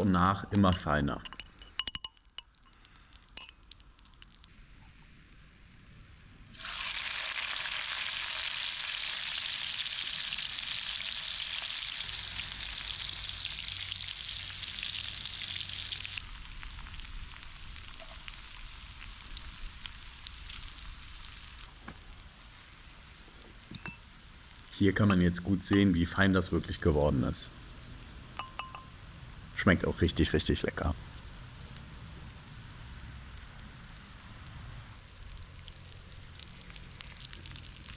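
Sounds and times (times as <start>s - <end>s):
crackles: 1.4s - 37.9s
food sizzling in a hot pan: 2.4s - 29.6s, 31.0s - 37.9s.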